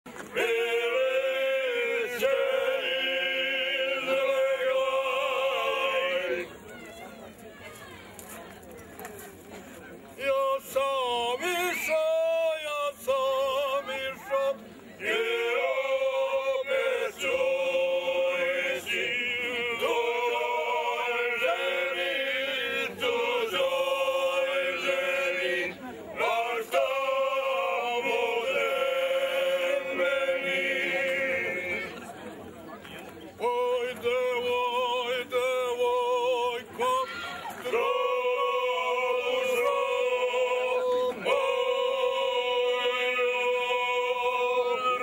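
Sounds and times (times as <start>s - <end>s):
men singing held chords: 0.3s - 6.5s, 10.2s - 32.0s, 33.4s - 37.0s, 37.6s - 45.0s.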